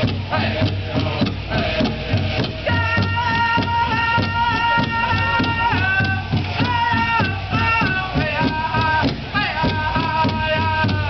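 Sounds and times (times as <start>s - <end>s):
big hand drum beat: 0.0s - 11.0s
group singing high held notes: 0.0s - 11.0s.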